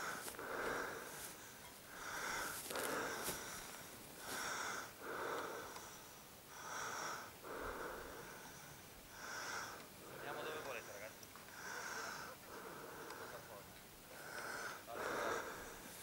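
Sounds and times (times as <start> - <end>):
heavy breathing: 0.0 - 16.0.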